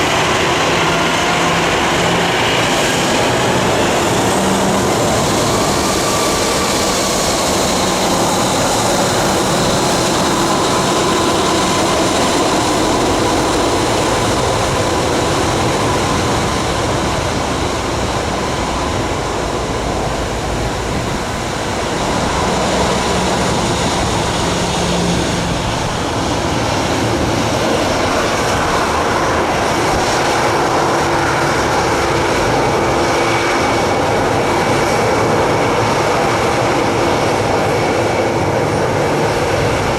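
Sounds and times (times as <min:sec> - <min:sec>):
jet engines roaring with whine: 0:00.0 - 0:39.9.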